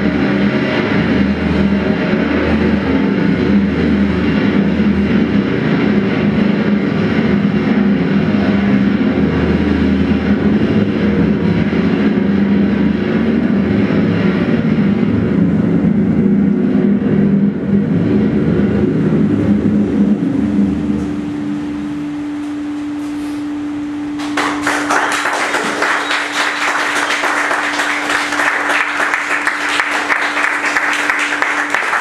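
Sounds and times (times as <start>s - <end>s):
amplified drone music: 0.0s - 23.0s, 23.6s - 32.0s.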